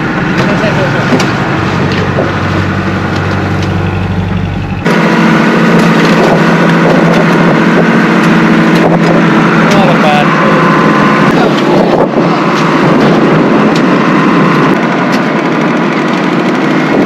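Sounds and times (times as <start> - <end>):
boat engine higher hum: 0.0 - 17.0
boat engine low rumble: 0.0 - 17.0.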